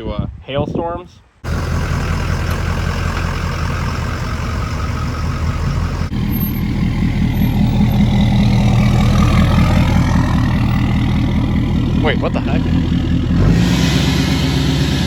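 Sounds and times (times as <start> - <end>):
truck engine running: 1.4 - 15.0.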